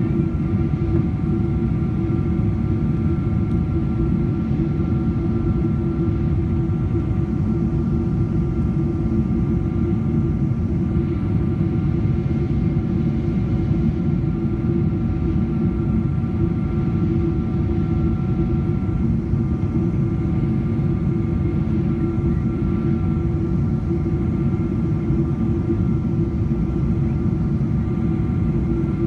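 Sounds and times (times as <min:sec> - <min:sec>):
airplane cabin engine rush: 0:00.0 - 0:29.0
faint steady whining tones: 0:00.0 - 0:29.0.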